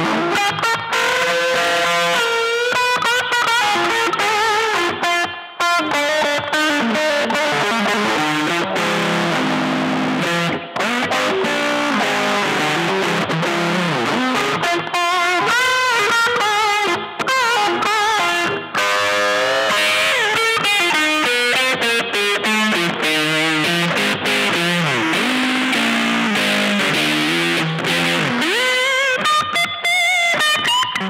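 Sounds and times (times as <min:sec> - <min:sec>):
electric guitar lead lines: 0:00.0 - 0:31.0.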